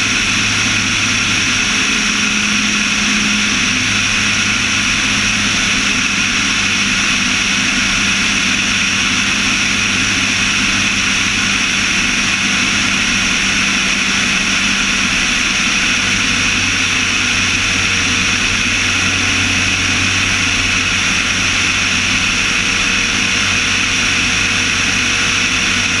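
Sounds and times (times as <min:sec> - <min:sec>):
propeller aircraft engine: 0:00.0 - 0:26.0.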